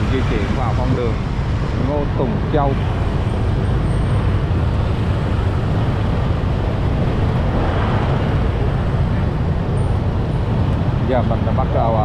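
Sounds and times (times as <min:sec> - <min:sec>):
motorbike street traffic: 0:00.0 - 0:12.0.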